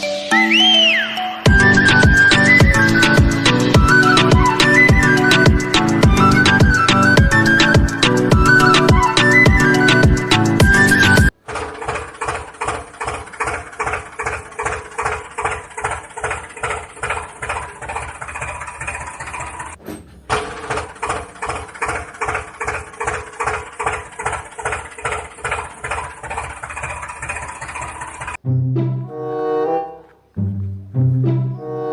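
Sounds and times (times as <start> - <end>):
tractor engine idling: 1.5 - 28.4.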